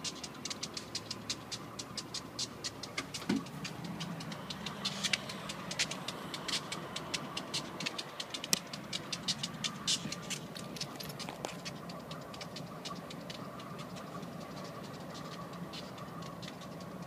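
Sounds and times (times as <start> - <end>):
distant locomotive hum: 0.0 - 17.0.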